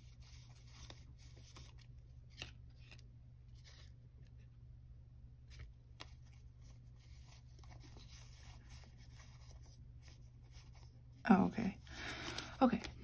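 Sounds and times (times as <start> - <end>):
plastic sheets and cards rustling: 0.0 - 4.6, 5.4 - 13.0.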